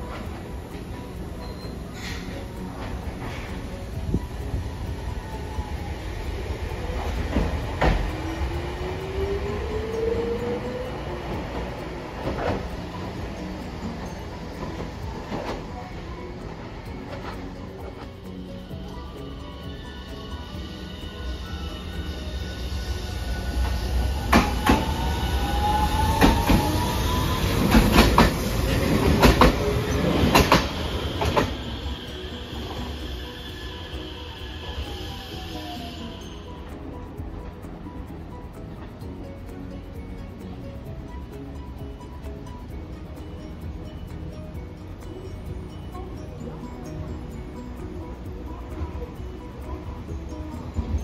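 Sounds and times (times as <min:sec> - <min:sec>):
tram wheels rumbling: 0:00.0 - 0:51.0.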